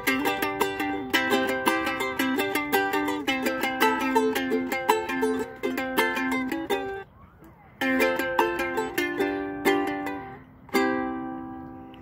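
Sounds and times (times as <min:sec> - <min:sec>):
ukulele strumming chords: 0:00.0 - 0:07.0, 0:07.8 - 0:12.0.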